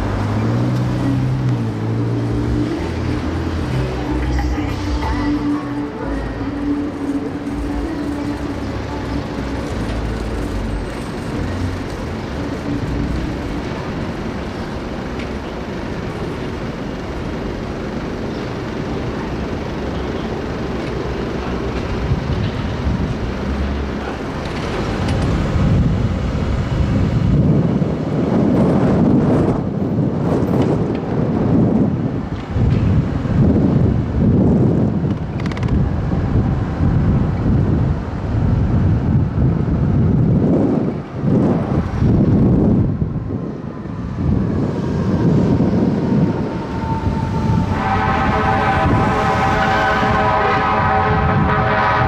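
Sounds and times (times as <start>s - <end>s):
city traffic rumble: 0.0s - 52.0s.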